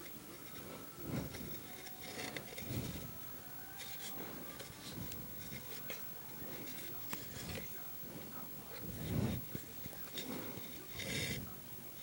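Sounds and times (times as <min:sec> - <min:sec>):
fingers rustling strings: 0:00.0 - 0:12.0.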